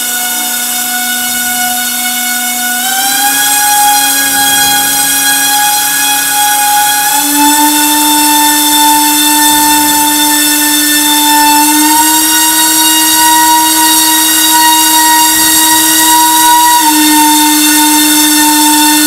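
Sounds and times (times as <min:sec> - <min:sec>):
motor spinning propeller whine: 0:00.0 - 0:19.0.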